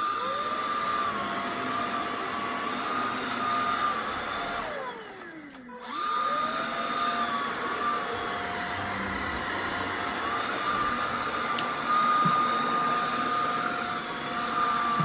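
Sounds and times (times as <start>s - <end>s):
vacuum motor whining: 0.0s - 15.0s.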